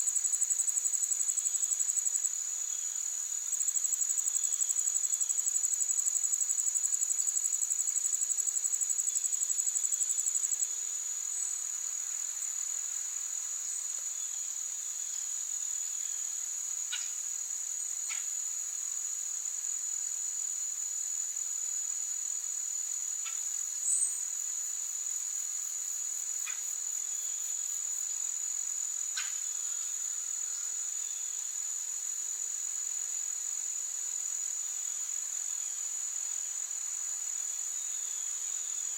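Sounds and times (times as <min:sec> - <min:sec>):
high-pitched insect chorus: 0:00.0 - 0:38.9
rapidly pulsing insect trill: 0:00.0 - 0:38.9.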